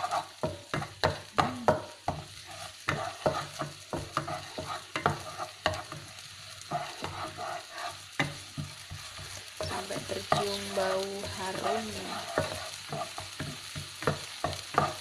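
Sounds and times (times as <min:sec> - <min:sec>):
oil frying sizzle: 0:00.0 - 0:15.0
wooden spatula scraping a wok: 0:00.0 - 0:15.0.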